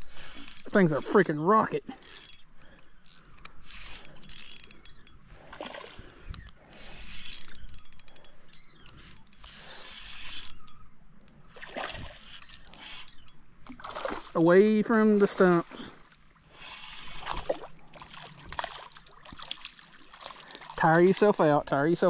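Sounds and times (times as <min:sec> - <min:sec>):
fishing reel gears whirring: 0:00.0 - 0:15.6, 0:16.4 - 0:20.1
reel drag ticking: 0:00.0 - 0:22.0.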